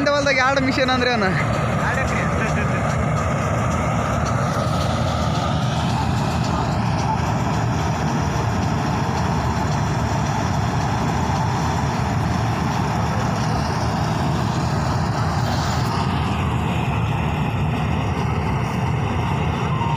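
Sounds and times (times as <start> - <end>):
combine harvesters running: 0.0 - 19.9.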